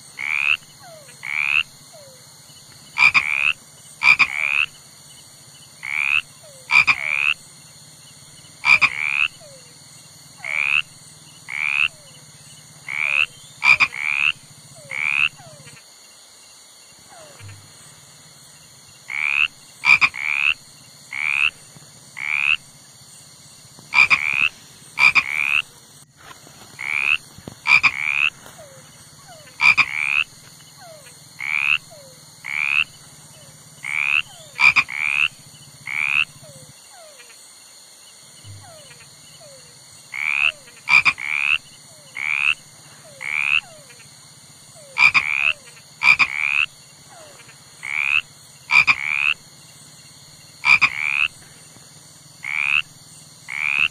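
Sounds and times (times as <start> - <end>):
frog croaking: 0.0 - 53.9.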